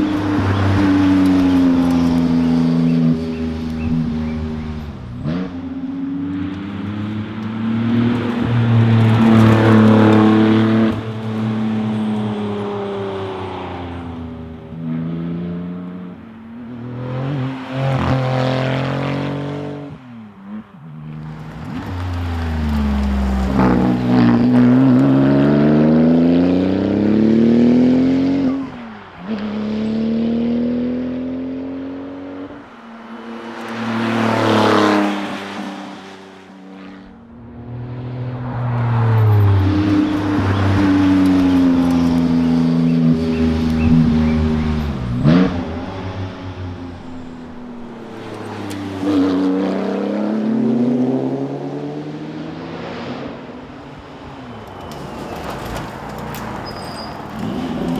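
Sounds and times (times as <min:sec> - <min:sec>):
sports car engine passing by: 0:00.0 - 0:53.5.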